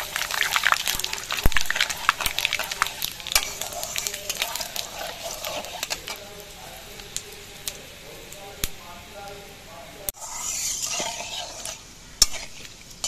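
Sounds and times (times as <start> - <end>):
spatula stirring in metal pan: 0.0 - 13.0
spices crackling in hot oil: 0.0 - 13.0.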